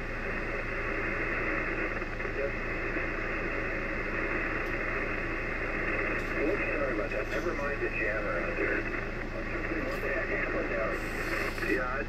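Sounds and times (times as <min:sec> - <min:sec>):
low steady hum: 0:00.0 - 0:12.0
radio static hiss: 0:00.0 - 0:12.0.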